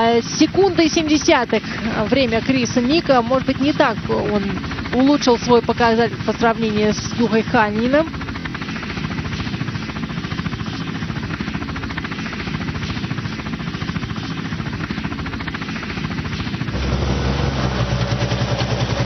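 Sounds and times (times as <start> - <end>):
helicopter rotor chopping: 0.0 - 19.0.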